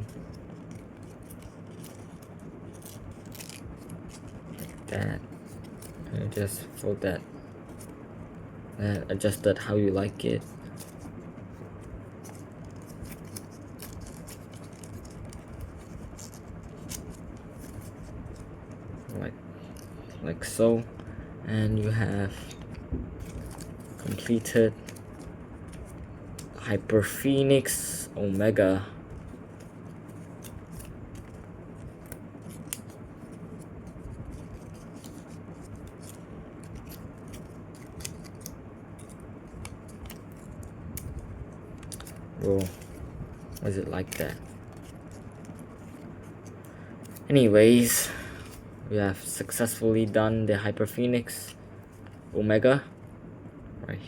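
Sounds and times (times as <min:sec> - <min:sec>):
paper rustling and crinkling: 0:00.0 - 0:07.0, 0:08.8 - 0:19.3, 0:21.7 - 0:50.3
steady low hum: 0:00.0 - 0:54.0.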